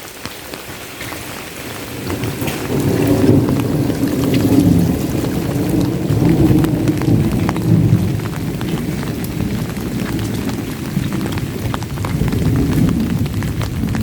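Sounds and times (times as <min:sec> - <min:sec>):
raindrop taps: 0:00.0 - 0:14.0
steady rain: 0:00.0 - 0:14.0
thunder rumbling: 0:01.1 - 0:14.0.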